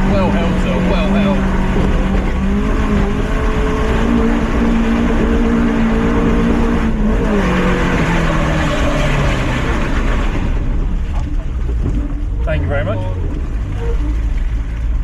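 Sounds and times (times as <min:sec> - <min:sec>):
car engine pulling under throttle: 0:00.0 - 0:15.0
road and wind noise: 0:00.0 - 0:15.0.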